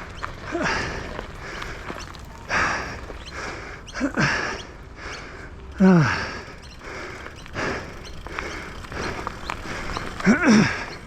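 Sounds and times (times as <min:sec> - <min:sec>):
man breathing hard and gasping: 0:00.4 - 0:11.0.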